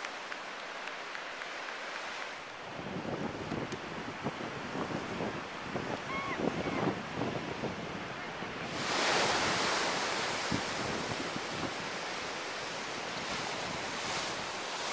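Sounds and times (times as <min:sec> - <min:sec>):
surf breaking on beach: 0:00.0 - 0:14.9
wind buffeting microphone: 0:01.9 - 0:14.9.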